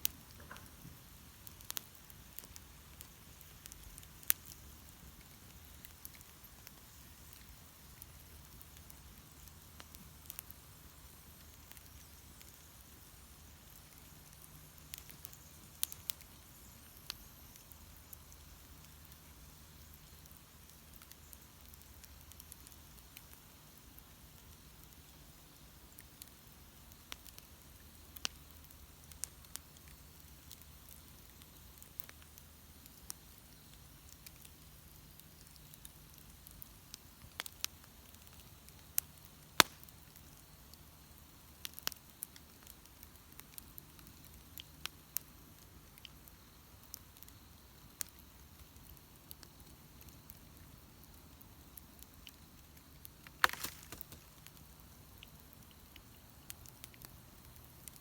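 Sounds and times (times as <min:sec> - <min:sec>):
sharp pops from fire: 0:00.0 - 0:58.0
wood bonfire crackling: 0:00.0 - 0:58.0.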